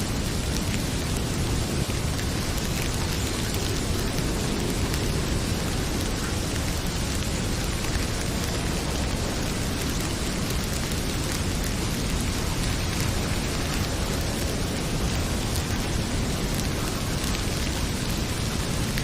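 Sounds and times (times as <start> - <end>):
heavy rain pouring: 0.0 - 19.0
wood fire crackling: 0.0 - 19.0.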